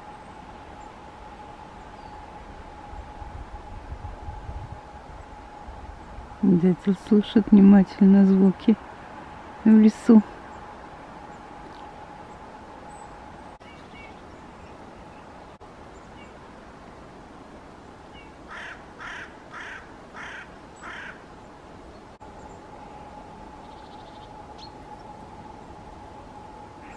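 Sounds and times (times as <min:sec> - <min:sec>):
low background hiss: 0:00.0 - 0:26.9.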